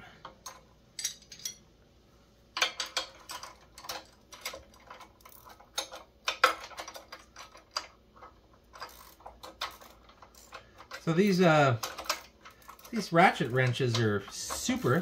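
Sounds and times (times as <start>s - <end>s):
ratcheting wrench clicking: 2.6s - 15.0s.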